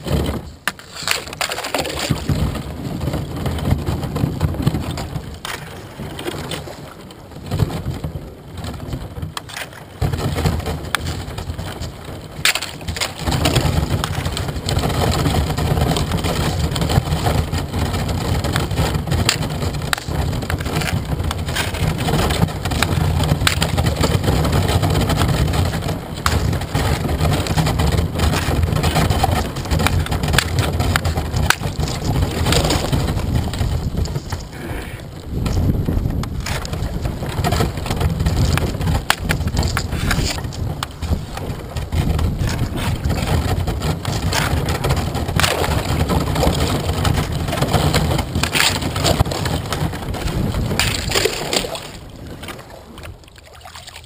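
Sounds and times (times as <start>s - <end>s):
kayak hull crunching through ice: 0.0s - 54.0s.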